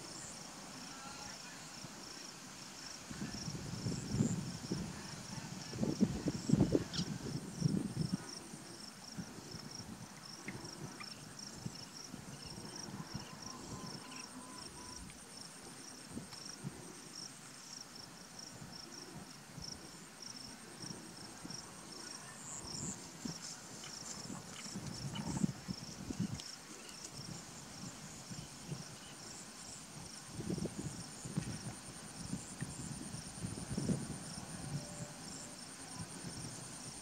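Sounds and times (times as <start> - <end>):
high insect trill: 0.0 - 37.0
insects chirping: 0.0 - 37.0.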